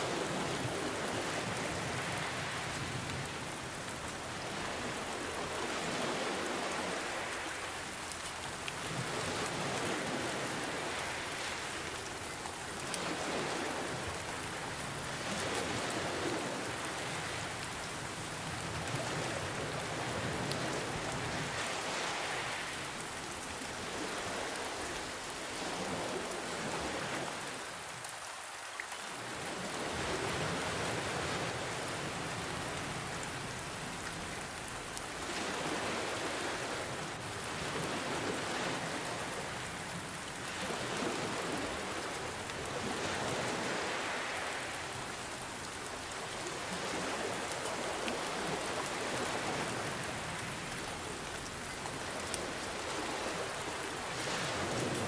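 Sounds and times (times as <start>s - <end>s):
ocean waves: 0.0s - 55.0s
rain pattering: 0.1s - 55.0s.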